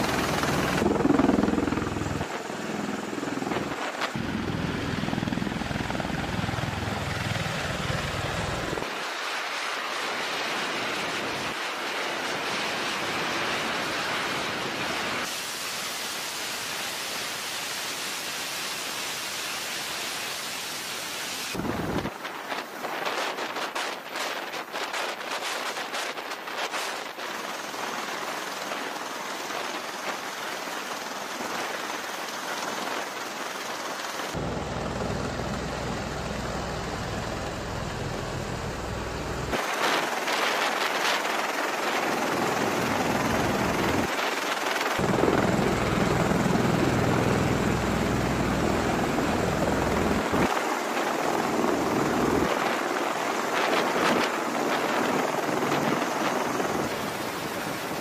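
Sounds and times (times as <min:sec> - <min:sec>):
helicopter rotor and turbine noise: 0:00.0 - 0:58.0.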